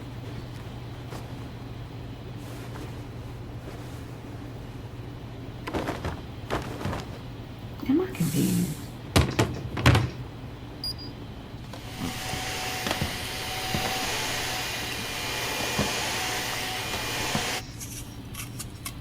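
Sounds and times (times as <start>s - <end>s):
faint whine: 0.0s - 18.5s.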